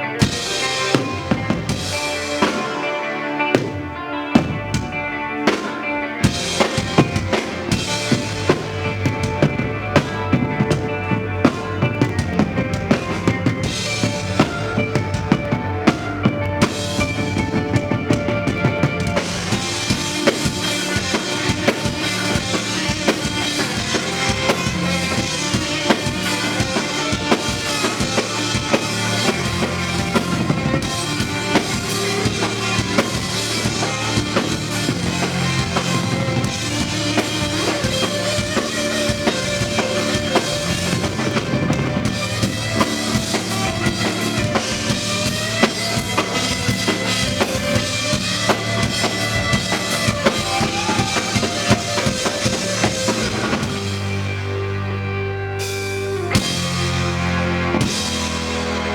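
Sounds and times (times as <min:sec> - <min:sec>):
live rock band playing: 0:00.0 - 0:58.9
bass drum and snare beat: 0:06.3 - 0:54.1.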